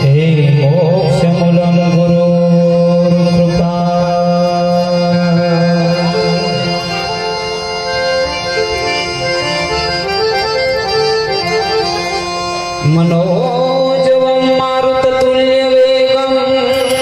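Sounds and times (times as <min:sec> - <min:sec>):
low held harmonium note: 0:00.0 - 0:15.3
harmonium melody: 0:00.0 - 0:17.0.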